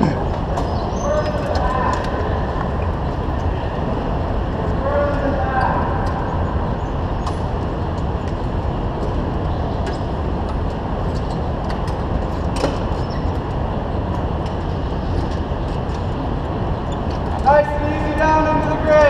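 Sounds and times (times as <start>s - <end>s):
go-kart engines idling: 0.0s - 19.0s.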